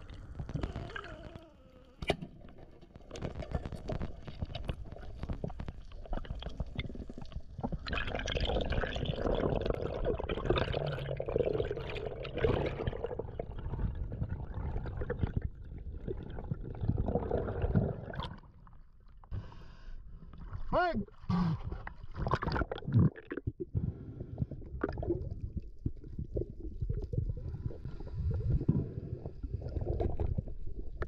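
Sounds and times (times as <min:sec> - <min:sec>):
water gurgling and sloshing: 0:00.0 - 0:31.0.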